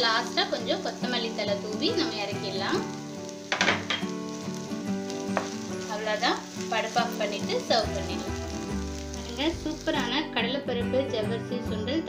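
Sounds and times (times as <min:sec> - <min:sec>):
background music: 0:00.0 - 0:12.0
food sizzling in a frying pan: 0:00.0 - 0:12.0.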